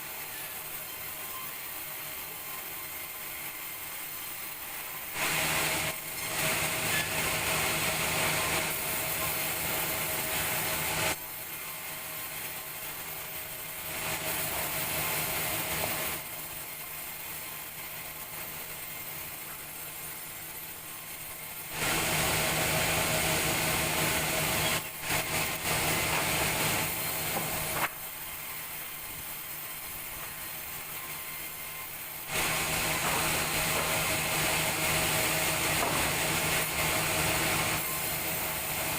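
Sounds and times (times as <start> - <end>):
sawmill saw cutting timber: 4.5 - 38.9.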